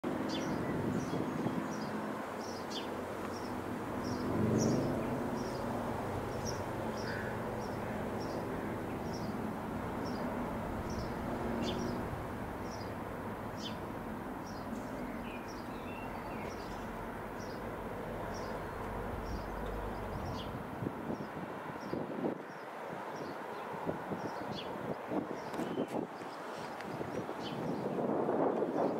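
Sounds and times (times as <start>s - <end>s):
distant helicopter flying over: 0.1s - 25.6s.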